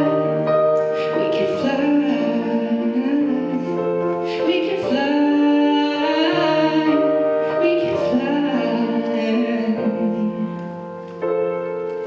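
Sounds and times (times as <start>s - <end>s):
ballad with sustained chords: 0.0s - 12.0s.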